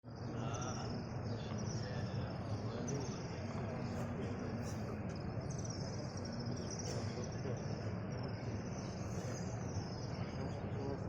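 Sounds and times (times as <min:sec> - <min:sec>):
murmur of a large crowd: 0:00.1 - 0:11.0.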